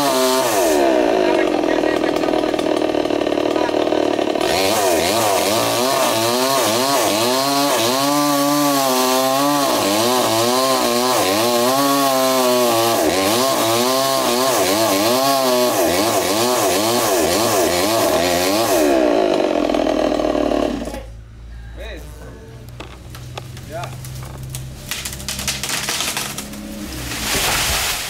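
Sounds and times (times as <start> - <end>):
chainsaw cutting wood: 0.0 - 21.1, 22.6 - 28.0.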